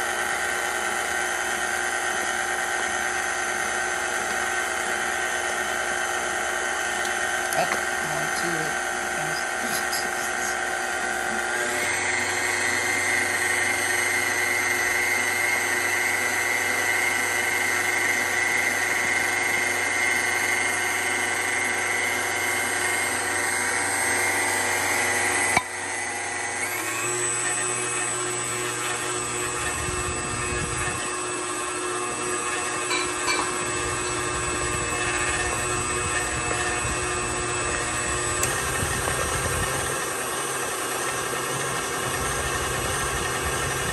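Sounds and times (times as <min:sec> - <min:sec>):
stand mixer motor whine: 0:00.0 - 0:43.9.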